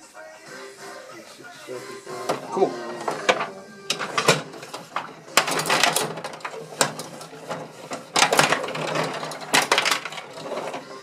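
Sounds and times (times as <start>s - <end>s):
table hockey rods clacking: 2.2s - 11.0s.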